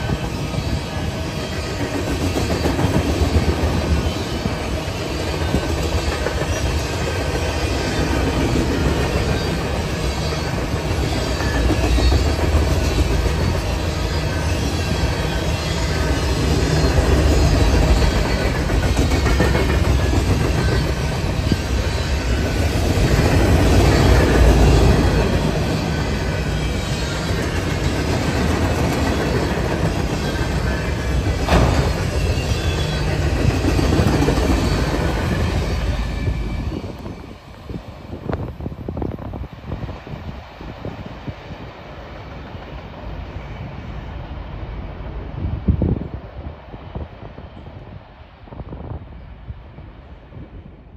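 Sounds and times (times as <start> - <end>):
freight train wheels rumbling on rails: 0.0 - 50.9.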